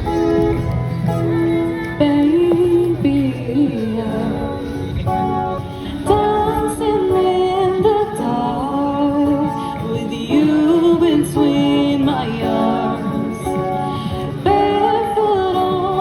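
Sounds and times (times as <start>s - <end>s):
instrumental backing music: 0.0s - 16.0s
woman singing: 1.9s - 16.0s.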